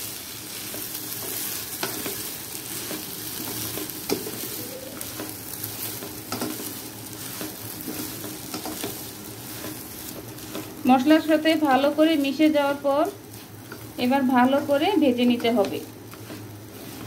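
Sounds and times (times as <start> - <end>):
rice and lentils sizzling in oil: 0.0 - 17.0
wooden spatula scraping and tapping: 0.6 - 11.3, 12.3 - 17.0.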